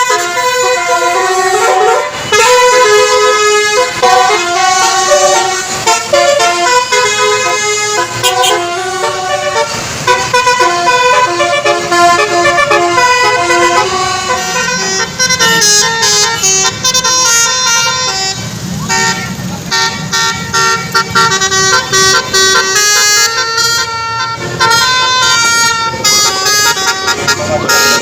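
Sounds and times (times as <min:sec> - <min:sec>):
multi-tone bus horn melody: 0:00.0 - 0:28.0.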